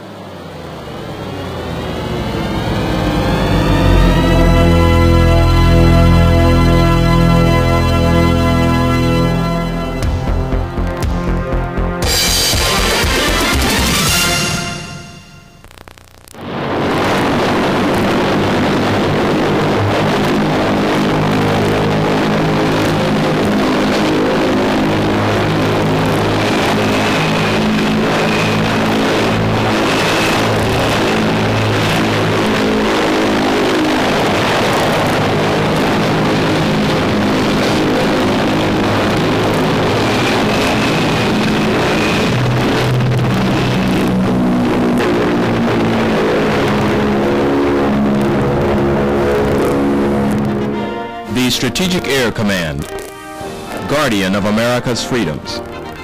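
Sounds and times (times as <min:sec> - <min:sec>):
piston engines droning roar: 0:00.0 - 0:15.4, 0:16.4 - 0:56.0.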